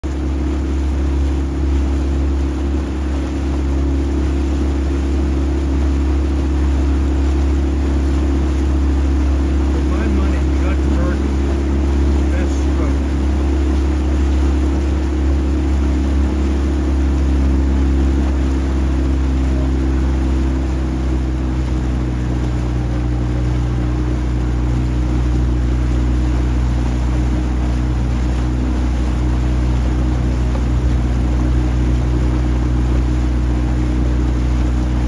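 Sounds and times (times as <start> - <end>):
motorboat engine running: 0.0 - 35.0
water washing: 0.0 - 35.0.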